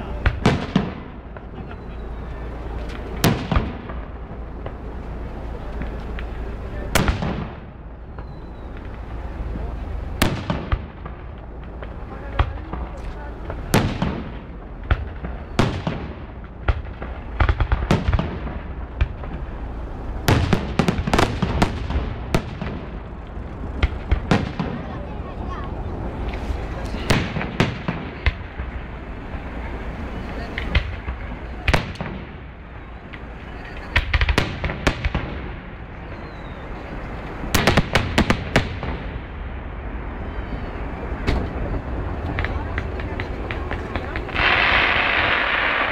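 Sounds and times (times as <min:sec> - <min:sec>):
fireworks bursting with echoing rumble: 0:00.0 - 0:45.9.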